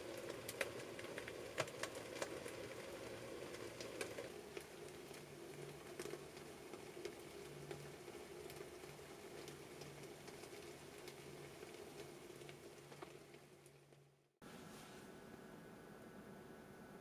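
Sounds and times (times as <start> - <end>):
fire pops and snaps: 0.0 - 14.1
campfire crackling: 0.0 - 14.4
low steady hiss: 0.0 - 17.0.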